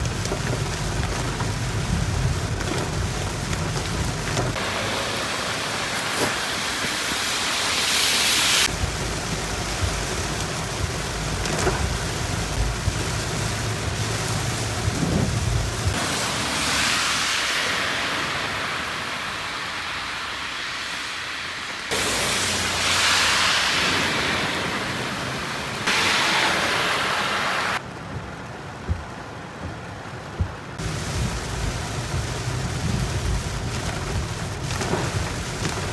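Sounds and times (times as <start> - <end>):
torrential rain pouring: 0.0 - 35.9.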